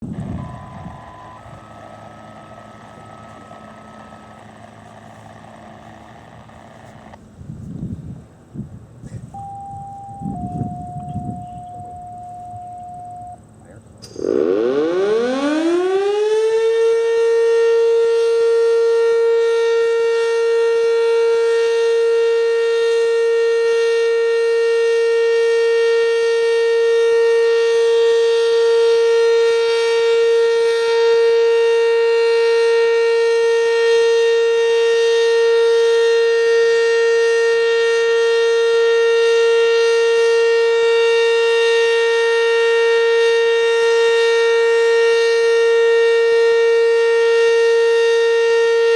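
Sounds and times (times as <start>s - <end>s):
warning siren winding up: 0.0s - 7.2s, 9.4s - 48.9s.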